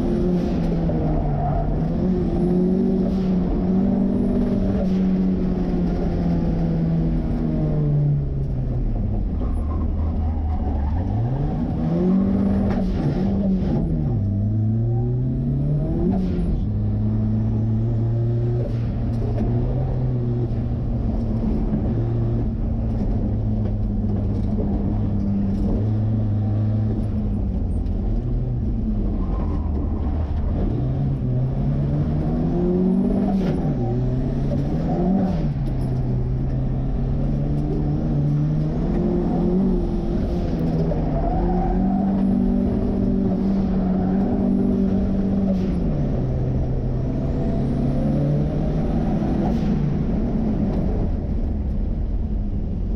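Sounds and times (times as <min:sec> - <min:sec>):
car engine revving: 0:09.3 - 0:51.9.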